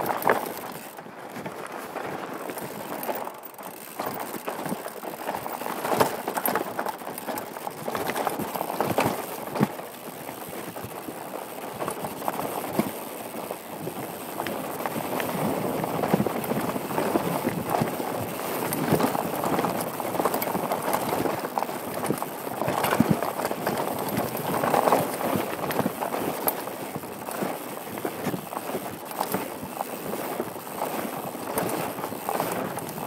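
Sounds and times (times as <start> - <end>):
bike rattling over rocks: 0.0 - 33.0
bike tyres crunching over gravel: 0.0 - 33.0.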